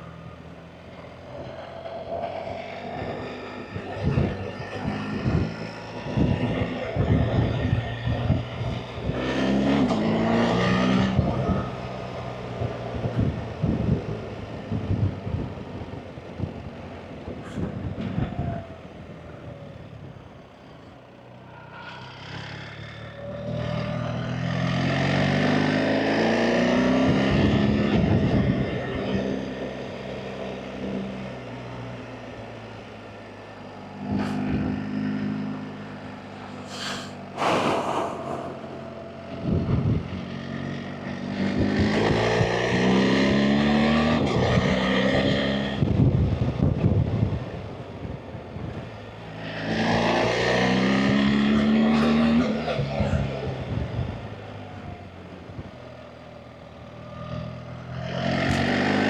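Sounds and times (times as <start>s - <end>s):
motorcycle engine revving: 0.0s - 15.7s, 21.4s - 59.0s.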